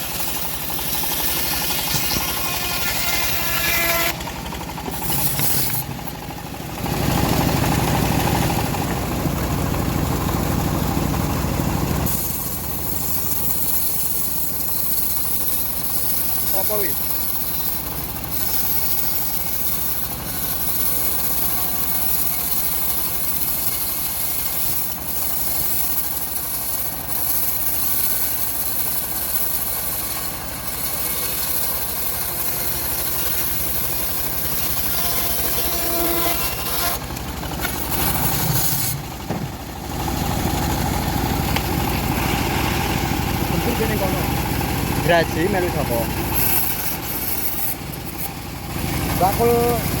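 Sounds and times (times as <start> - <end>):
bandsaw mill cutting wood: 0.0 - 50.0.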